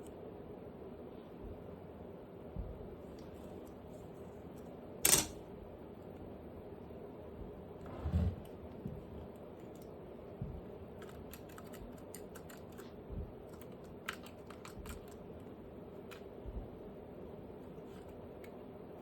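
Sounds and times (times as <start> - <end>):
faint steady background hum: 0.0 - 19.0.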